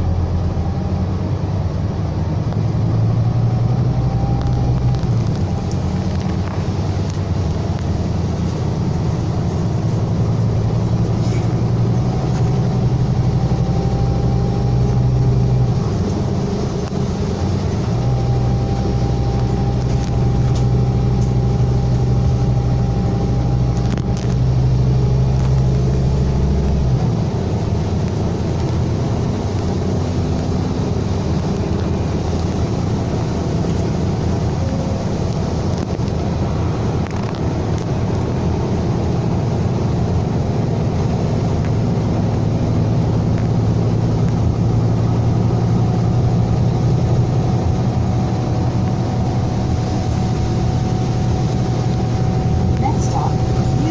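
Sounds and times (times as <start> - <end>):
bus diesel engine droning: 0.0 - 53.9.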